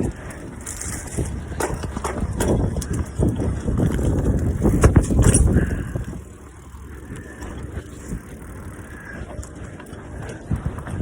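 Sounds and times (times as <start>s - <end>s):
bicycle rattling over ground: 0.0s - 11.0s
wind buffeting microphone: 0.0s - 11.0s.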